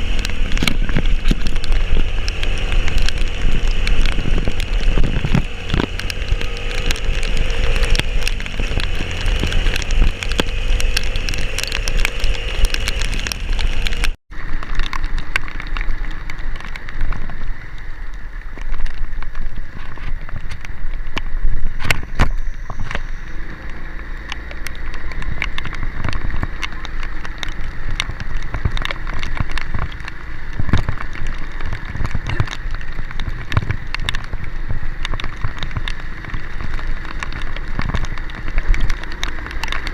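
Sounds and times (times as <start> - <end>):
vehicle engine running: 0.0 - 14.2, 22.0 - 39.9
sharp clicks and knocks: 0.0 - 17.3, 18.6 - 39.9
heavy rain pattering: 0.0 - 39.9.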